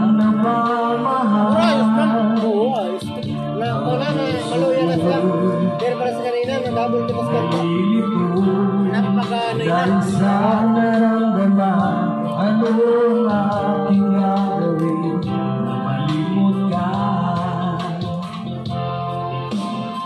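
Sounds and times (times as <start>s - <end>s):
person singing: 0.0s - 18.7s
backing music: 0.0s - 20.0s.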